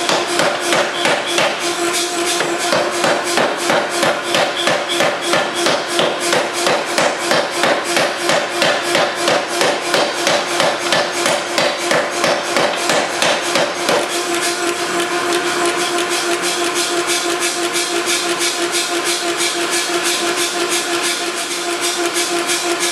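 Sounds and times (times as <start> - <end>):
hammer running hum: 0.0 - 22.9
power hammer pounding metal: 0.0 - 22.9.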